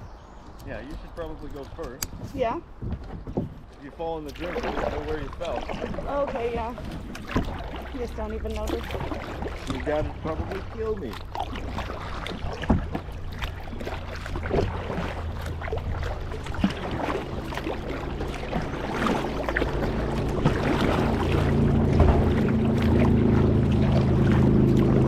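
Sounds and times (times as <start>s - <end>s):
paddle splashes and drips: 0.5s - 25.0s.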